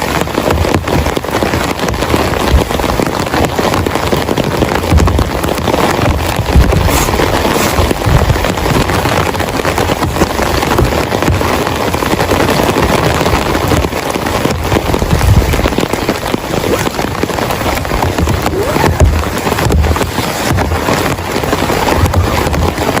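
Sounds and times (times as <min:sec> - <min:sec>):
heavy rain pouring: 0:00.0 - 0:23.0
low rumbles: 0:00.0 - 0:23.0.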